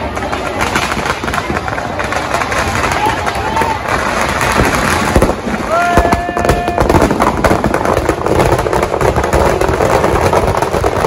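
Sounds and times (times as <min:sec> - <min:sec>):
firecrackers crackling and popping: 0:00.0 - 0:11.0.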